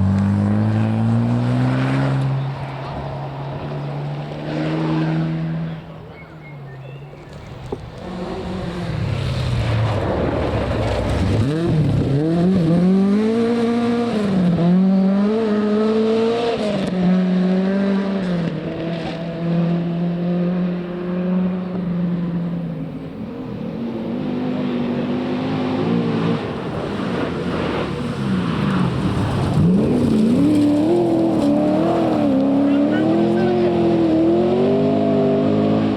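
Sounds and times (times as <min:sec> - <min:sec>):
rally car engine revving: 0:00.0 - 0:35.9.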